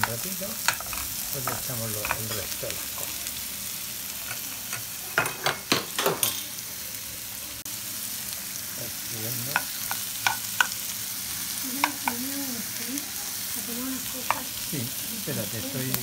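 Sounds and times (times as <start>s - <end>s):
onions sizzling in frying pan: 0.0s - 16.0s.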